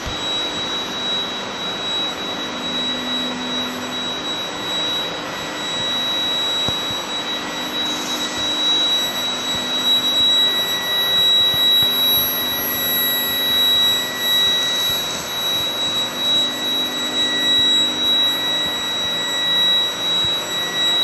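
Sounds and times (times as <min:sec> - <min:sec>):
high-pitched machine whine: 0:00.0 - 0:21.0.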